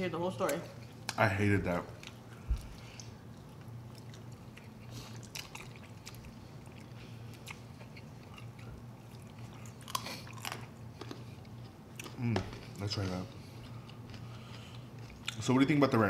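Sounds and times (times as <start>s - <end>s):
steady low hum: 0.0s - 16.0s
people chewing chicken wings: 1.9s - 15.5s.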